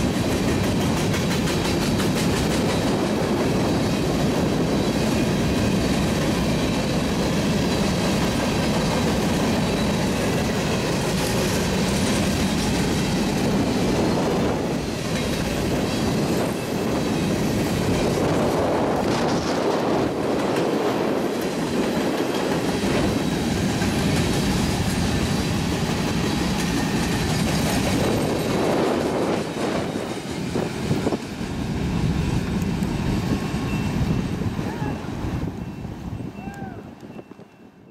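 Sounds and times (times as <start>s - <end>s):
train wheels rolling on rails: 0.0s - 37.9s.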